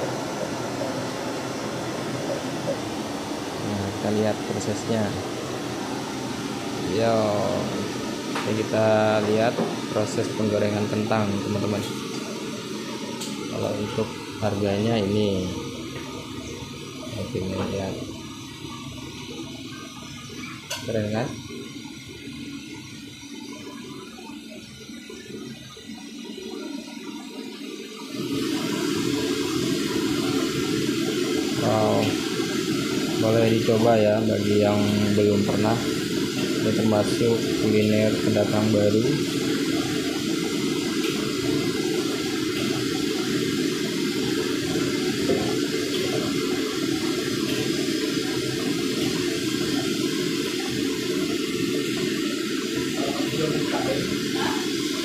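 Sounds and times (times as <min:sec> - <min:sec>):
oil sizzling while deep-frying: 0:00.0 - 0:55.0.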